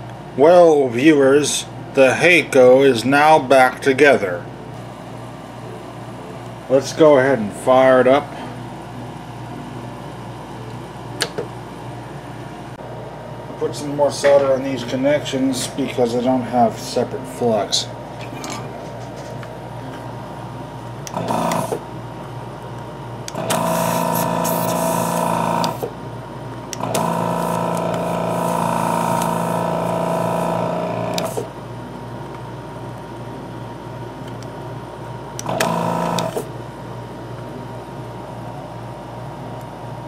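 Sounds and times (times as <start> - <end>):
vacuum pump buzzing: 0.0 - 40.0.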